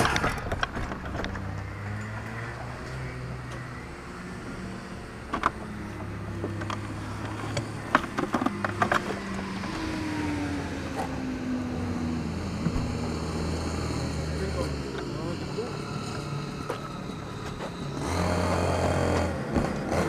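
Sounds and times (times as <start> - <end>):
go-kart engines droning: 0.0 - 20.0.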